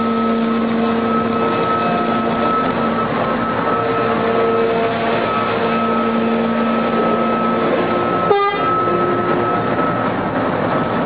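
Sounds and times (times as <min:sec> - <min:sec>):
mining shovel machine hum: 0:00.0 - 0:11.0.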